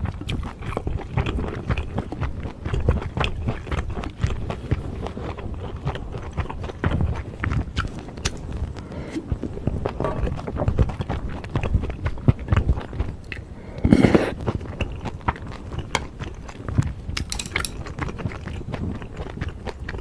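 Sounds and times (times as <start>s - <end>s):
wet chewing mouth clicks: 0.0s - 20.0s.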